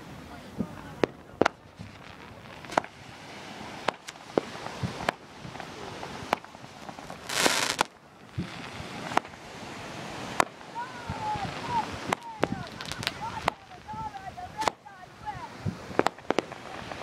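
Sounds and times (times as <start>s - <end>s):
firework bangs: 0.0s - 17.0s
firework crackling hiss: 0.0s - 17.0s
firework whoosh: 0.0s - 17.0s.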